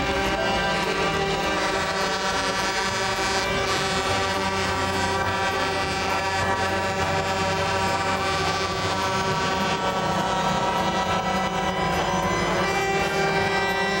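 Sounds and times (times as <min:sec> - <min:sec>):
truck air horns blowing: 0:00.0 - 0:14.0.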